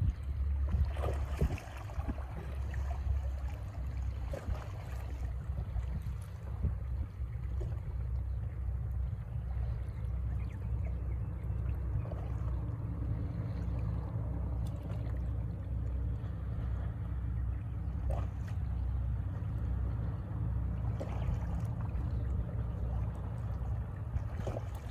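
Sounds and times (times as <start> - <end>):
distant boat engines rumbling: 0.0 - 24.9.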